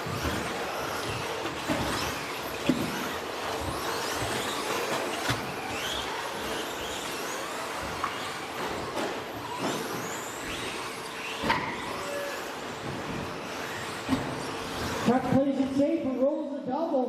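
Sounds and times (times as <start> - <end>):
electric motors whining: 0.0 - 16.2.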